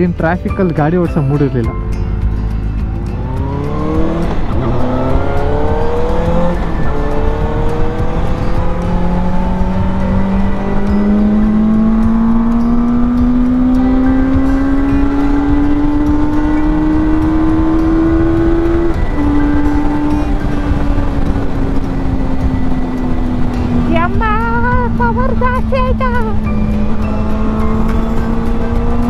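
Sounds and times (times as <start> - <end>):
wind and road noise: 0.0 - 29.0
motorcycle engine accelerating: 1.6 - 29.0.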